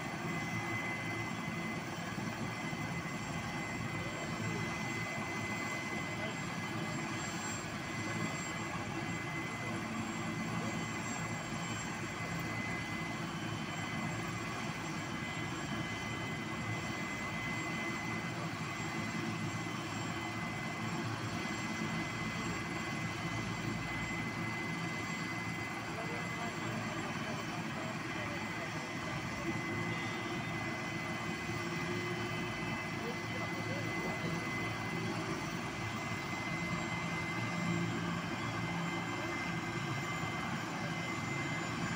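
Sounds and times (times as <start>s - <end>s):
helicopter turbine whine: 0.0s - 41.9s.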